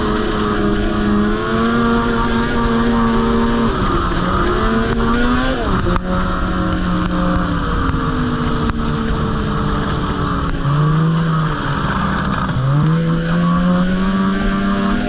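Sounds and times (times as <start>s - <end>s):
snowmobile engine: 0.0s - 15.0s.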